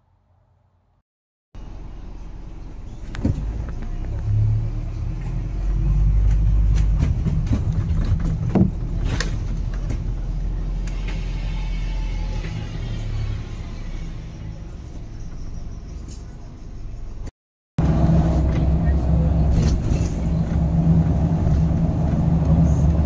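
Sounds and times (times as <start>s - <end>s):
motor vehicle rumbling: 1.6s - 23.0s.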